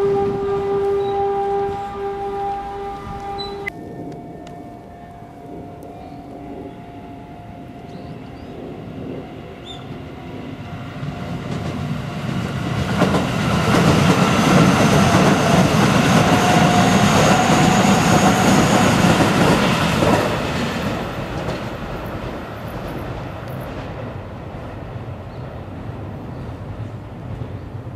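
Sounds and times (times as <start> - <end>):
steady whining tones: 0.0 - 23.8
train rumble and wheel clatter: 0.0 - 27.9.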